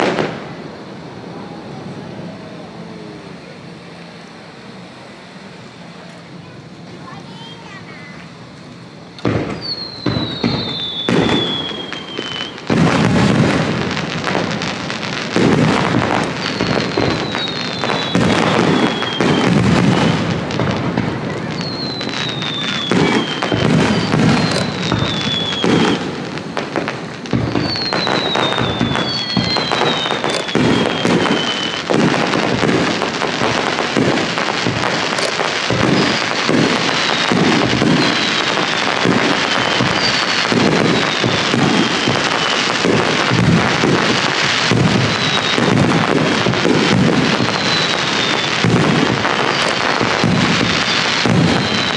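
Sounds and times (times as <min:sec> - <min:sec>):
firework shells bursting: 0:03.4 - 0:51.9.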